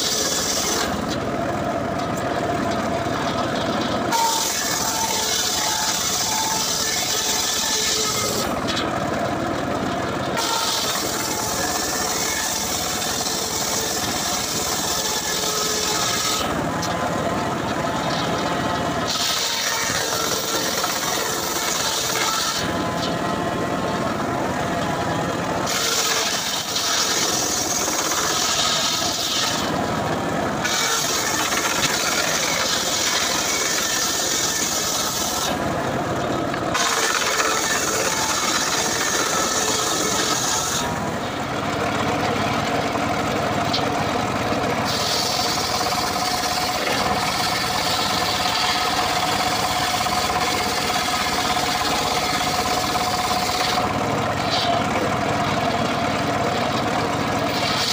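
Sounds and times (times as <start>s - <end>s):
circular saw cutting wood: 0.0s - 57.9s.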